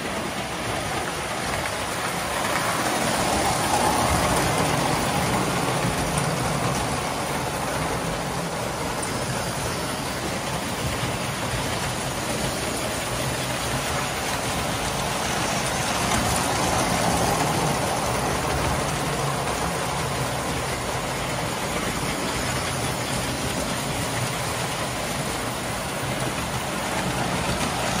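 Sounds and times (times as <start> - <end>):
metal wheels rumbling on track: 0.0 - 28.0.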